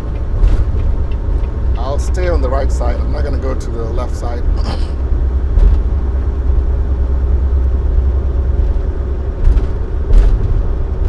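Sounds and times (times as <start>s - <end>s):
road rumble: 0.0s - 11.0s
truck engine drone: 0.0s - 11.0s.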